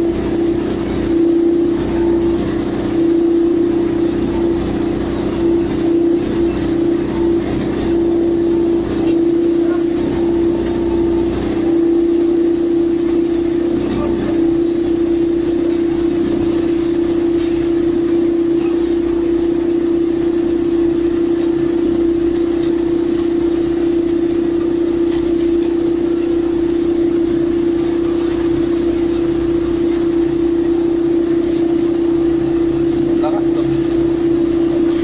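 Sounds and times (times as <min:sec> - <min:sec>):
engine rumble: 0:00.0 - 0:35.0
heavy machinery humming: 0:00.0 - 0:35.0.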